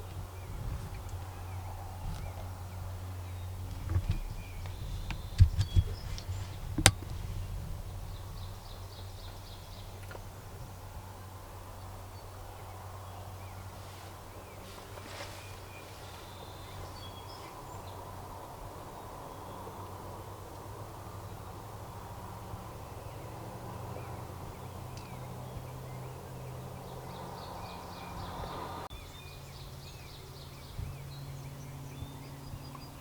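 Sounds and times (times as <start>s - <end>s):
faint songbird chirps: 0.0s - 33.0s
low steady hum: 0.0s - 33.0s.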